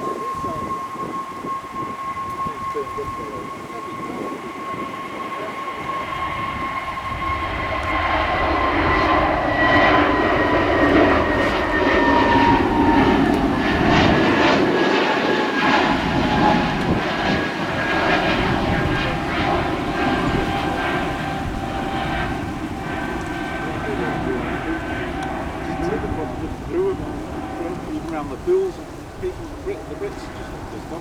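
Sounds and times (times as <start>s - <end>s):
high fan whine: 0.0s - 31.0s
jet engines roaring: 0.0s - 31.0s.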